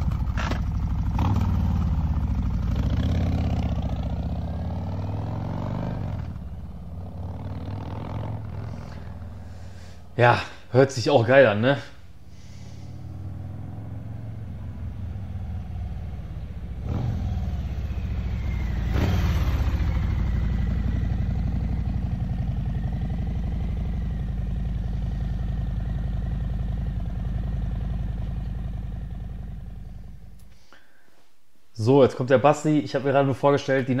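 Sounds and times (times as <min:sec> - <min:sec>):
motorcycle engine rumbling: 0:00.0 - 0:30.4.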